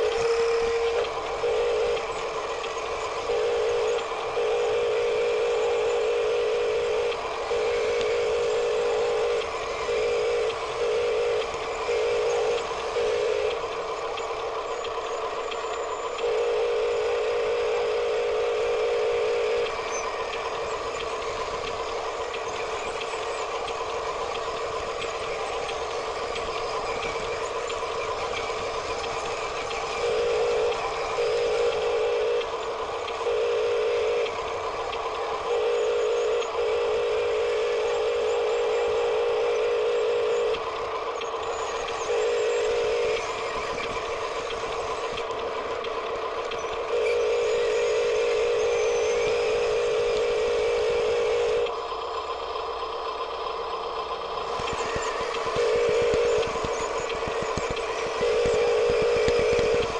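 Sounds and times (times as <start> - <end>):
flat-pitched tone: 0.0 - 23.6, 28.8 - 40.7, 41.4 - 51.8, 54.3 - 59.9
steady background hum: 0.0 - 59.9.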